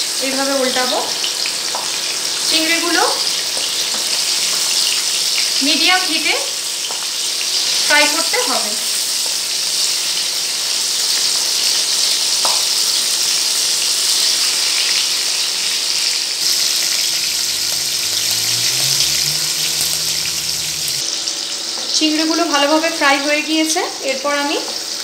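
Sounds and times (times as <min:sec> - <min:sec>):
prawns sizzling in oil: 0:00.0 - 0:21.8.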